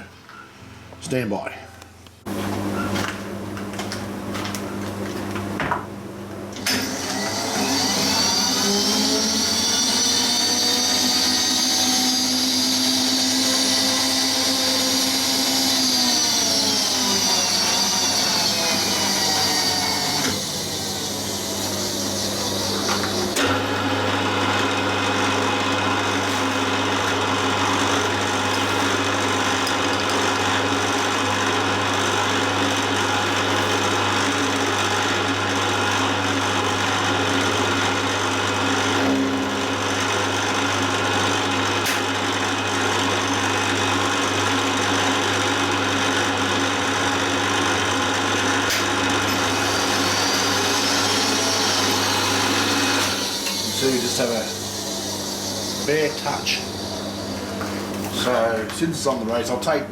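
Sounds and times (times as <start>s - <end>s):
milling machine hum and whir: 2.3s - 58.7s.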